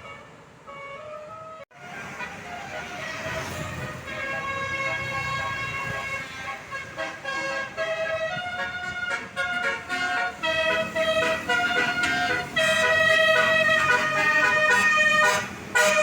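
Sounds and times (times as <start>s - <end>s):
musical air horn tune: 0.0s - 16.0s.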